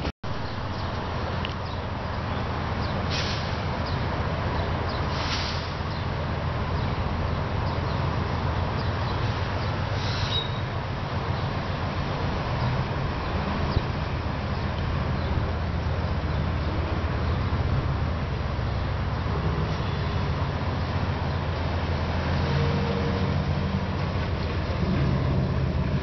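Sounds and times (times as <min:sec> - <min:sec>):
road traffic rumble: 0:00.0 - 0:26.0
distant diesel locomotive: 0:01.0 - 0:26.0.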